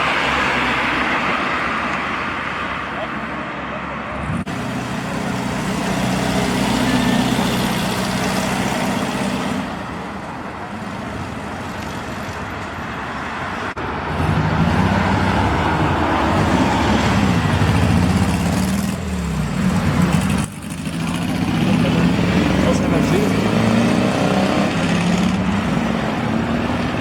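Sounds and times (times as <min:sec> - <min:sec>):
car engines driving past: 0:00.0 - 0:27.0.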